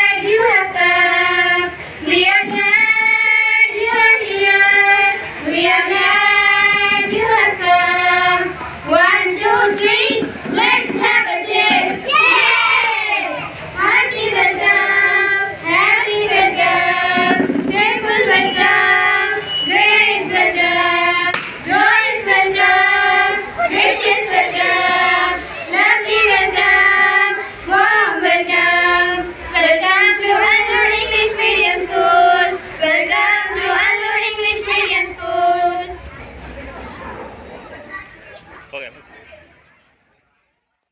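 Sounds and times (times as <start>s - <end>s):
child singing: 0.0s - 36.0s.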